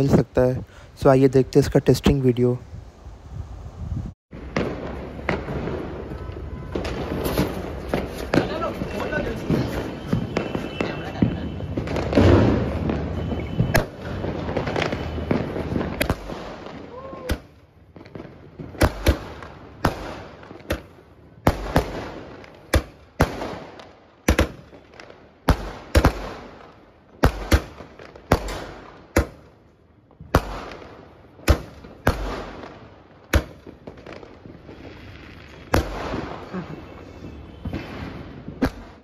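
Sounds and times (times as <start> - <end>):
fireworks bangs: 4.3 - 39.0.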